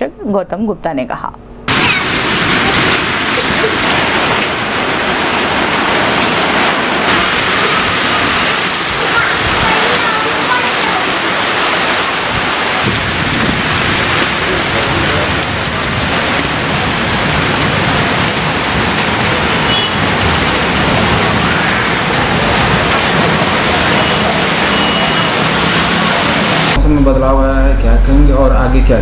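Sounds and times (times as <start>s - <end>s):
heavy rain pouring: 1.7s - 26.8s.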